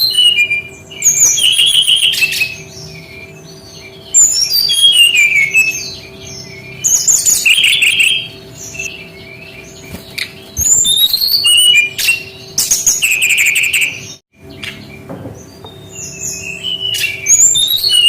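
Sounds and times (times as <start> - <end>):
soft bird calls: 0.0 - 18.0
songbird singing whistled notes: 0.0 - 18.0.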